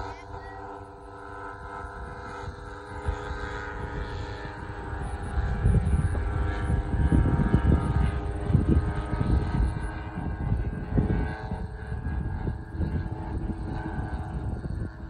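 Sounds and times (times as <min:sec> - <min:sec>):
model airplane engines droning: 0:00.0 - 0:15.0
wind rumbling on microphone: 0:00.0 - 0:15.0.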